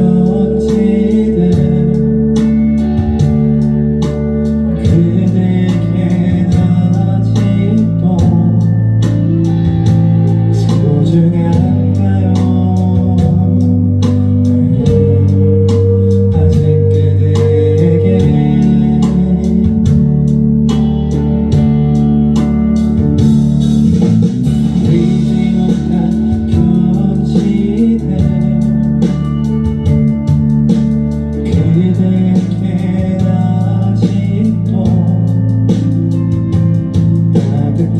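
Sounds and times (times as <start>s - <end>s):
bass guitar: 0.0s - 37.9s
drums with steady beat: 0.0s - 37.9s
electric guitar: 0.0s - 37.9s.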